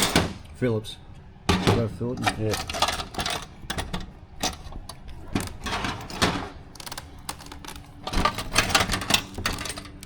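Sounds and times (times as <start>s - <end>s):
plastic parts clicking and tapping: 1.5s - 10.0s.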